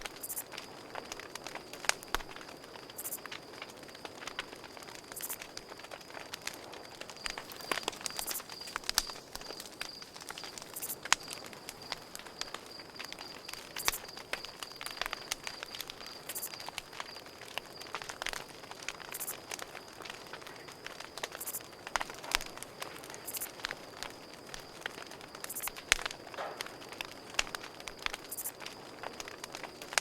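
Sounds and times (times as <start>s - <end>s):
campfire crackling: 0.0s - 30.0s
cricket chirping: 0.0s - 30.0s.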